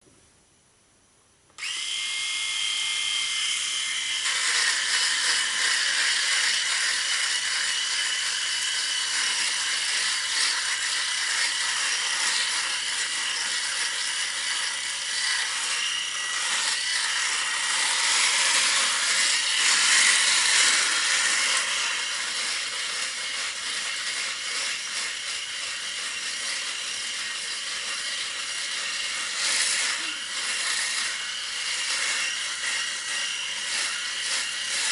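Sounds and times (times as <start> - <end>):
electric shaver whining: 1.6 - 34.9
shaver cutting stubble: 2.6 - 34.9.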